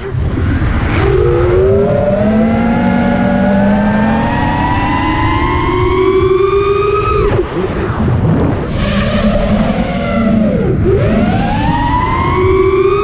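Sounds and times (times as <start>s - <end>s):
drone motors whining: 0.0s - 13.0s
wind rush on microphone: 0.0s - 13.0s.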